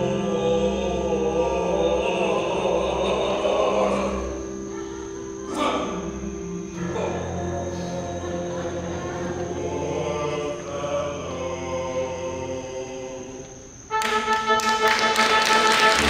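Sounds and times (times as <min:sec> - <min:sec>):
orchestra with voices: 0:00.0 - 0:16.0.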